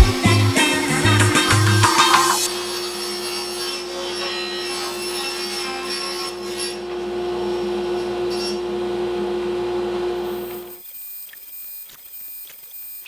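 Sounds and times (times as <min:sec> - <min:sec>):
table saw cutting plywood: 0:00.0 - 0:10.8.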